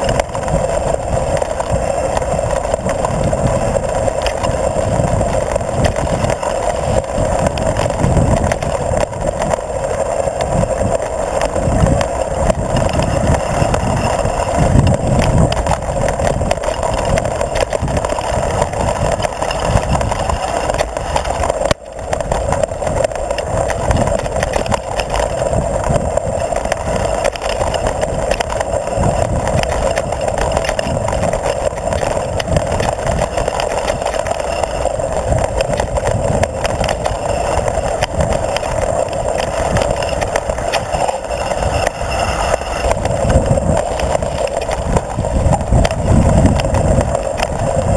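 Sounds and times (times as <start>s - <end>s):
bike tyres rattling on dirt: 0.0s - 47.9s
wind buffeting: 0.0s - 47.9s.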